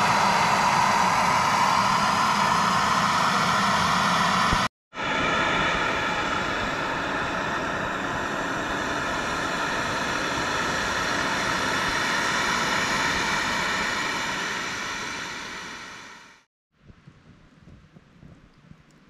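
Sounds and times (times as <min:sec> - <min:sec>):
gas burner hiss: 0:00.0 - 0:16.5.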